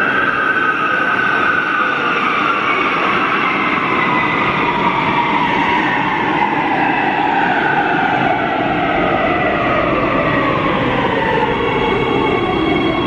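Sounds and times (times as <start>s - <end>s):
train running along platform: 0.0s - 13.0s.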